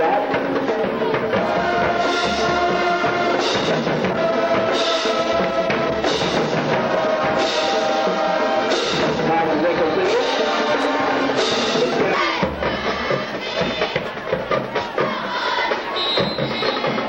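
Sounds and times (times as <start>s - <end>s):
music with drums: 0.0s - 17.0s.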